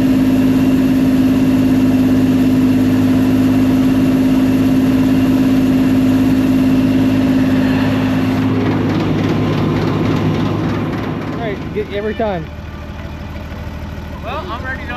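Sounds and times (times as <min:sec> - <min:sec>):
steady hum: 0:00.0 - 0:12.6
combine harvester drone: 0:00.0 - 0:14.9.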